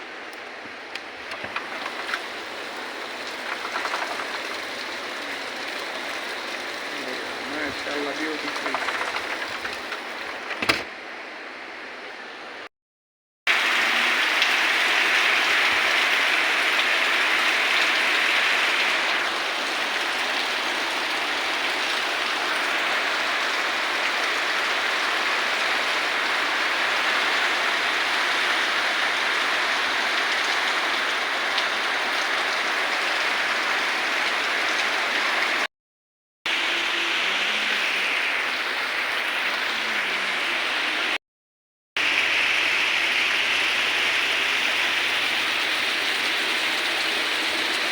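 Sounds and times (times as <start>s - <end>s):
steady rain falling: 0.1s - 10.7s, 13.5s - 35.7s, 36.5s - 41.2s, 42.0s - 47.9s.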